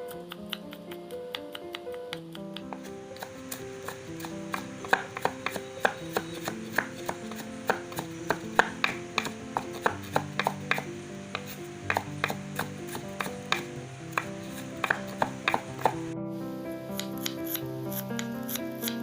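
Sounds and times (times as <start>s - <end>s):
knife chopping on cutting board: 0.0s - 16.1s, 16.9s - 19.0s
soft background music: 0.0s - 19.0s.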